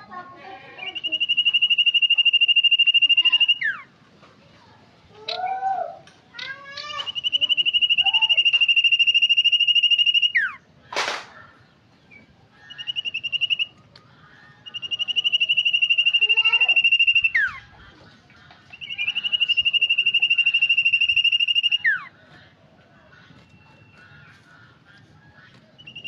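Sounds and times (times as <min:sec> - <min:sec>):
bird trilling and chirping: 0:00.1 - 0:03.9, 0:06.3 - 0:26.0.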